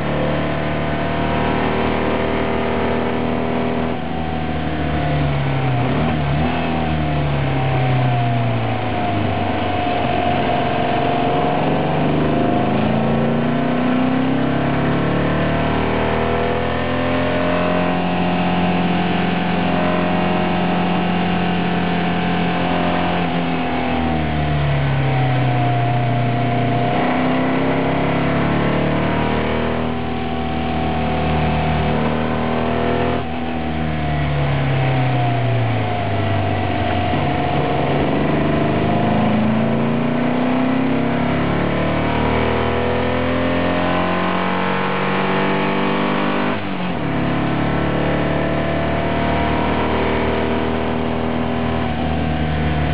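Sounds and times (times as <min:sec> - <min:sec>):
racing car engine at full load: 0:00.0 - 0:52.9.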